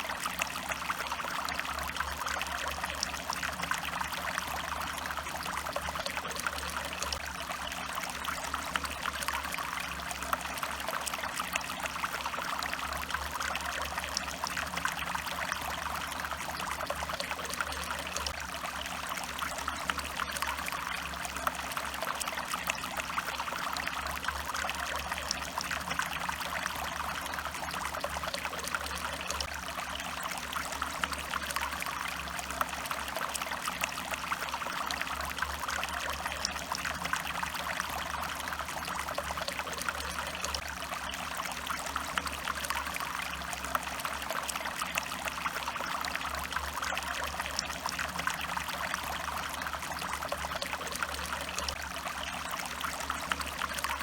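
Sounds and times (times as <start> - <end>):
stream water trickling: 0.0 - 54.0.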